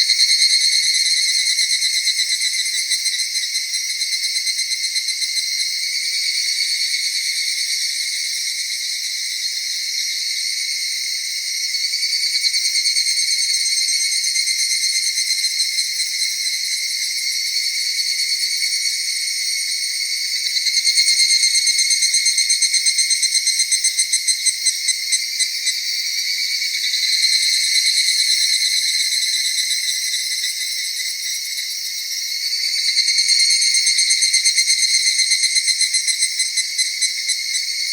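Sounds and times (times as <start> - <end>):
crickets and insects trilling: 0.0 - 37.9
rapidly pulsing insect song: 0.0 - 37.9.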